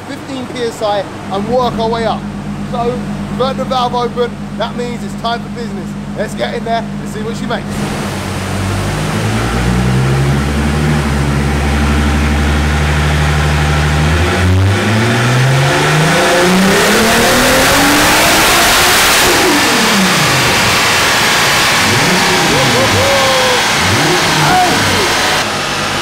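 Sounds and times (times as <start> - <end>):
turbocharged car engine revving: 0.0 - 26.0.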